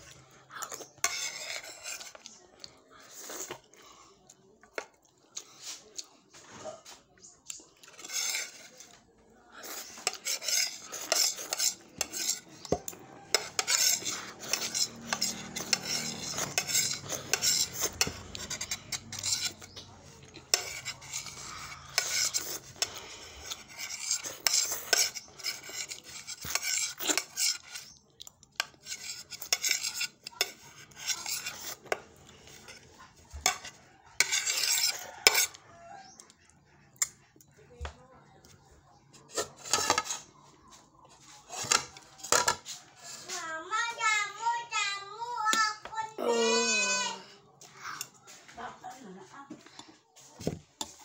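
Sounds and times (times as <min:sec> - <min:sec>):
spoon scraping a dish: 0:00.0 - 0:04.0, 0:04.6 - 0:37.6, 0:38.4 - 0:44.0, 0:49.5 - 0:51.0.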